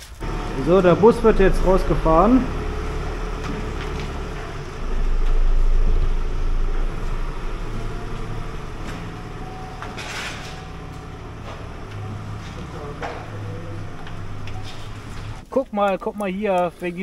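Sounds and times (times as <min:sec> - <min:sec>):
car engine rumble: 0:00.0 - 0:15.4.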